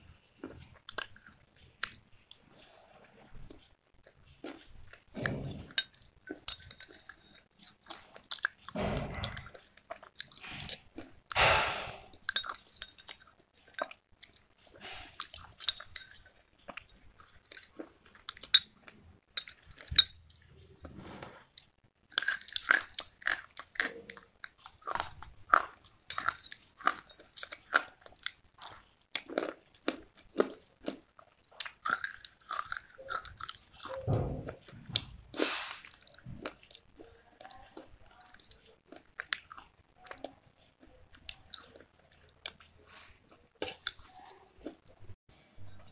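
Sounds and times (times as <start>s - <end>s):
chewing crunchy sticks: 0.0s - 45.1s.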